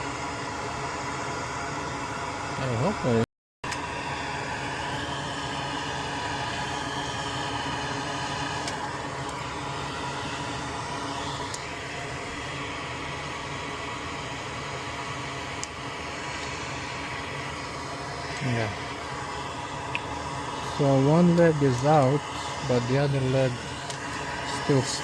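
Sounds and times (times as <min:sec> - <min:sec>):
small fan humming: 0:00.0 - 0:25.0.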